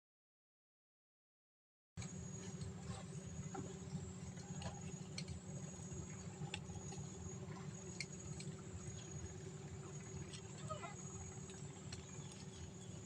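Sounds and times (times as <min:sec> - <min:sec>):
insects chirping: 0:02.0 - 0:13.0
low hum: 0:02.0 - 0:13.0.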